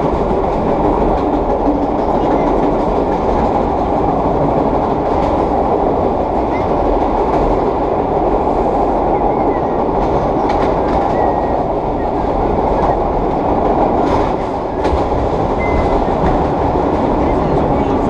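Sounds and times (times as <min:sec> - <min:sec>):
subway train gears growling: 0:00.0 - 0:18.0
wheels rumbling on track: 0:00.0 - 0:18.0.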